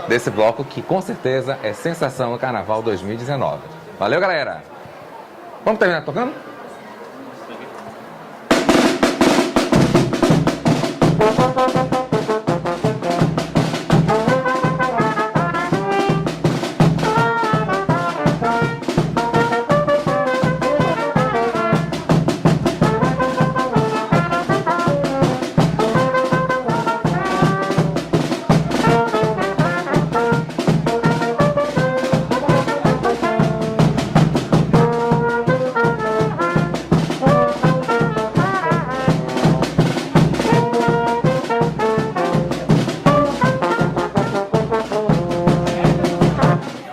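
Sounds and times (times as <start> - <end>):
brass band playing: 8.0 - 46.9
fast drum beat: 8.5 - 46.7.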